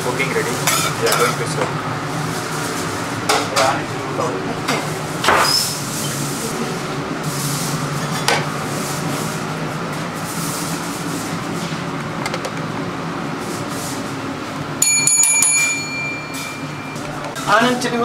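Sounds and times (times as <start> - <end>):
kitchen hum: 0.0 - 18.0.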